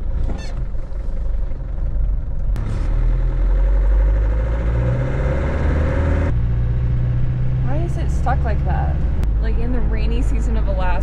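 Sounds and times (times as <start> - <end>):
truck engine pulling away: 0.0 - 11.0.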